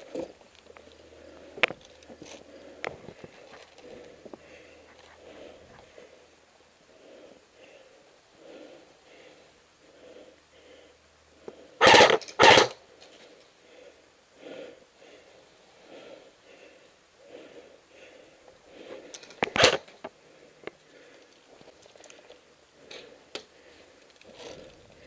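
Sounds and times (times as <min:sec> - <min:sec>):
heavy rhythmic breathing: 0:00.0 - 0:12.2, 0:12.8 - 0:25.0.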